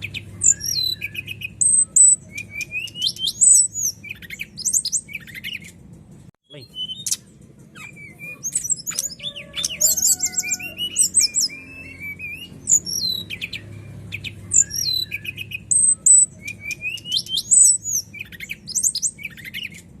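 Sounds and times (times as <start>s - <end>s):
bird singing whistles and trills: 0.0s - 5.8s, 6.5s - 20.0s.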